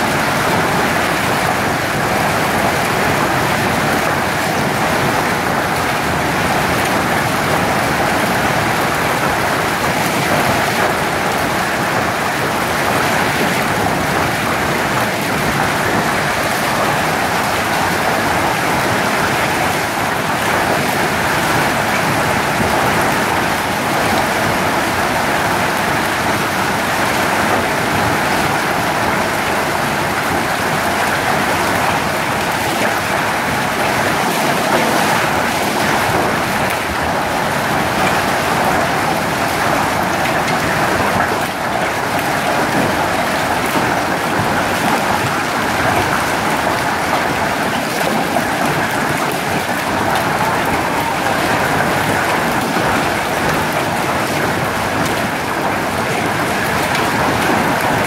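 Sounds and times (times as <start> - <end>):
hail and heavy rain on concrete: 0.0 - 58.0.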